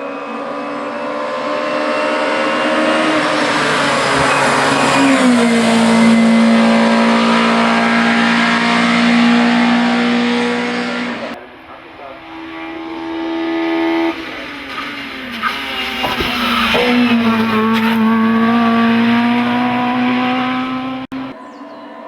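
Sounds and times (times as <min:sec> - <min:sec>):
race car engine at high revs: 0:00.0 - 0:21.4.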